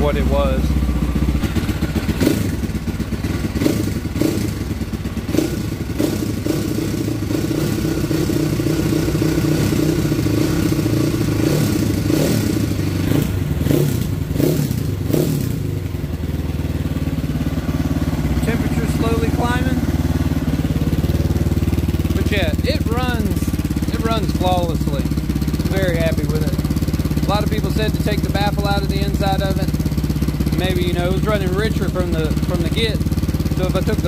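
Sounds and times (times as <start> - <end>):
dirt bike engine running: 0.0 - 34.0
engine throttle blips: 0.0 - 34.0.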